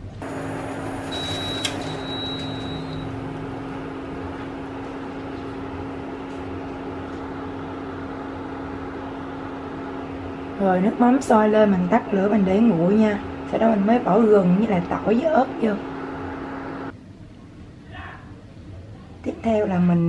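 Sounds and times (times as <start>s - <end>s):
cooktop hum and fan noise: 0.0s - 20.0s.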